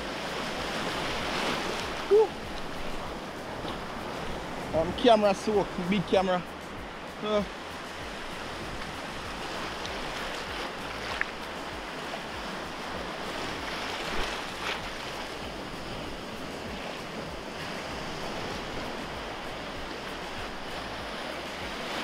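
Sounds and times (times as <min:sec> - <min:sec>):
surf washing over a raft: 0:00.0 - 0:22.0.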